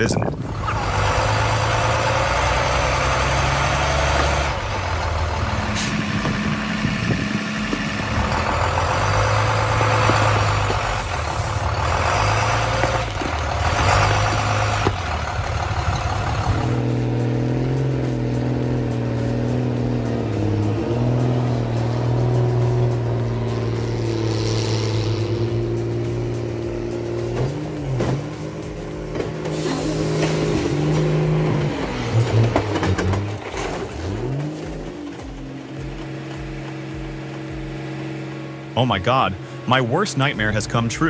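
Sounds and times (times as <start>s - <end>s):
bus engine under load: 0.0s - 41.0s.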